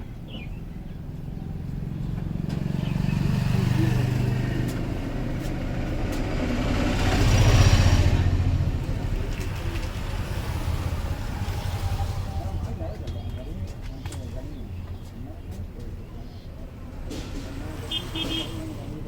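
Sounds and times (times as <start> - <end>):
road traffic: 0.0 - 19.0
vehicle engine passing by: 0.6 - 14.5, 16.6 - 19.0.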